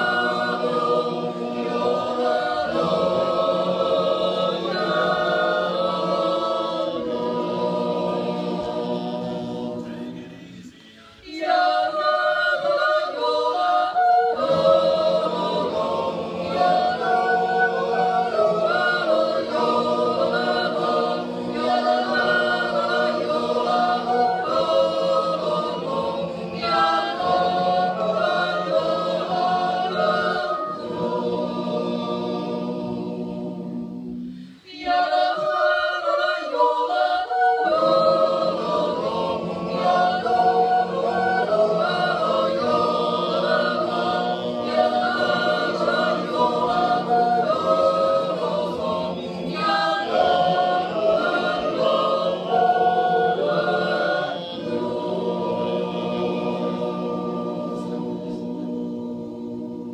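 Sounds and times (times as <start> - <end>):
men's choir singing a cappella: 0.0 - 59.9.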